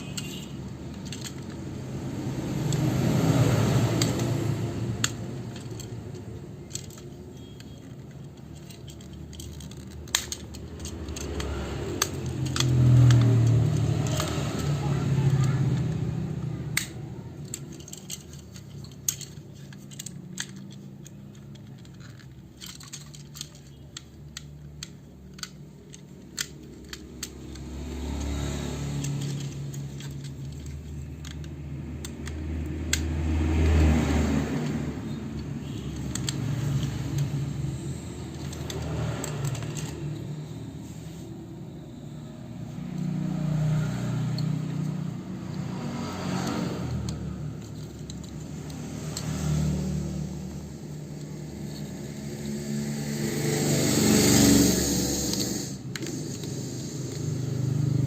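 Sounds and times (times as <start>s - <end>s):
plastic toy parts clicking: 0.0s - 58.0s.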